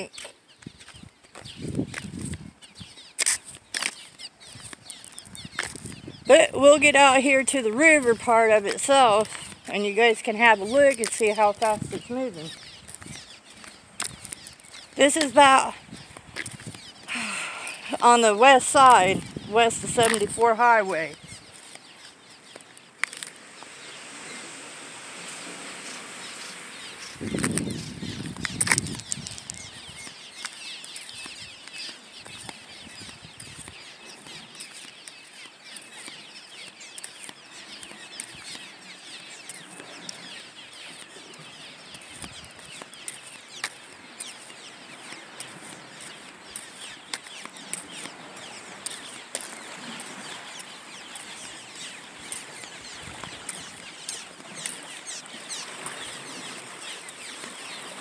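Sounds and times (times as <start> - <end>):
small ticks and rustles: 0.0 - 58.0
rushing river water: 3.0 - 58.0.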